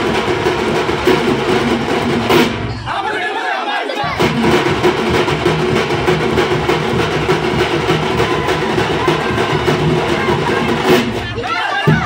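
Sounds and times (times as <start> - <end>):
frame drums beaten with sticks: 0.0 - 2.9, 4.0 - 12.0.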